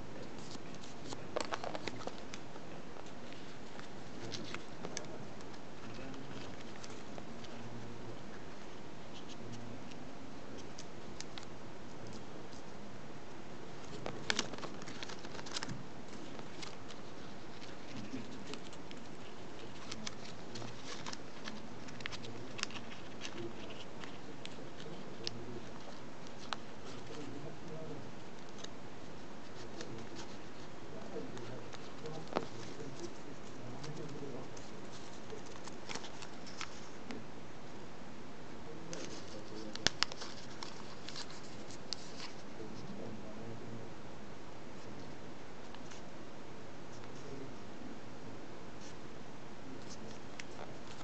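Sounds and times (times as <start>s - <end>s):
paper crackling and tapping: 0.2s - 10.0s, 10.6s - 12.8s, 13.7s - 37.2s, 38.9s - 43.1s, 49.8s - 51.0s.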